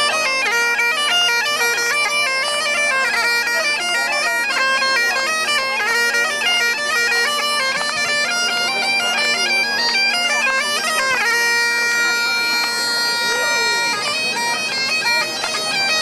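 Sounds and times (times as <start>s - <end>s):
bagpipe drone: 0.0s - 16.0s
bagpipe melody: 0.0s - 16.0s.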